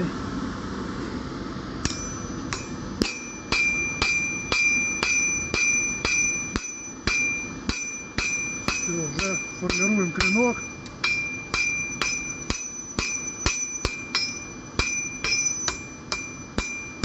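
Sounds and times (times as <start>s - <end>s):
hammer striking steel on anvil: 1.8s - 17.0s.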